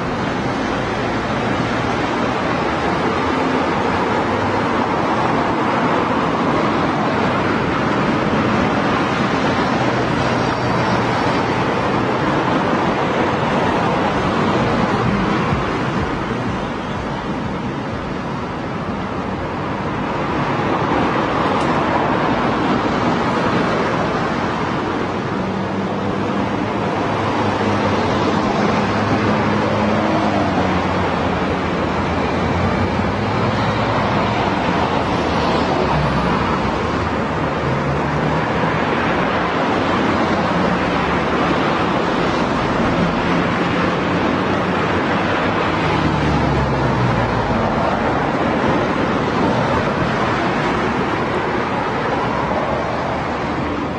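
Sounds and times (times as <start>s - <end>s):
car engines humming: 0.0s - 53.9s
road traffic passing: 0.0s - 53.9s.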